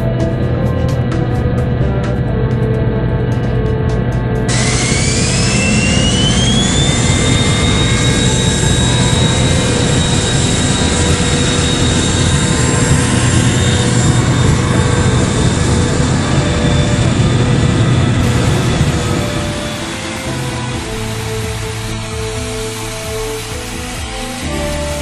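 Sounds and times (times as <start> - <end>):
jet turbine whine and rush: 0.0 - 25.0.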